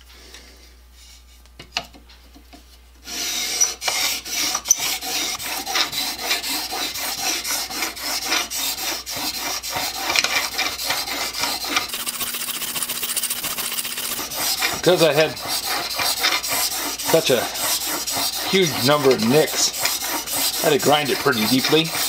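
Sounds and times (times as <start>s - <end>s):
plane blade scraping on water stone: 3.0s - 22.0s.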